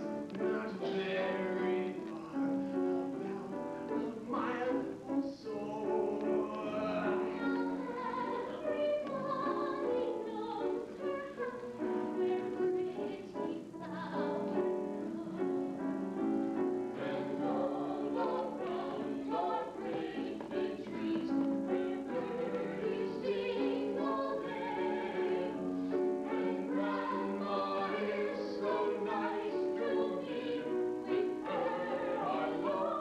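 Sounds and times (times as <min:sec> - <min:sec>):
piano and keyboard accompaniment: 0:00.0 - 0:33.0
operetta singing: 0:00.1 - 0:16.1, 0:16.9 - 0:25.6, 0:26.2 - 0:33.0.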